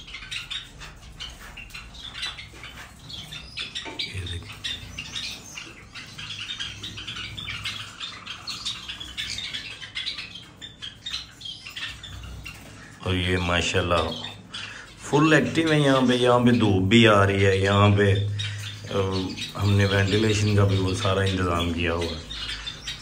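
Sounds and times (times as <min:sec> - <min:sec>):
finches chirping and chattering: 0:00.0 - 0:23.0.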